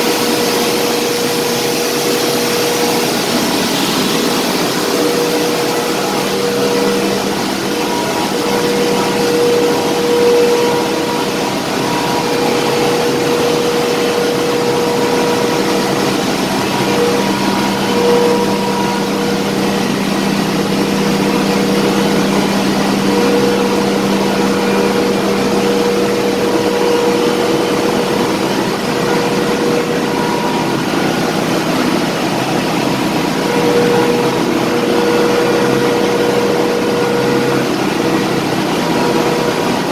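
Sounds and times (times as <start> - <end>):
engine room machinery hum: 0.0 - 39.9.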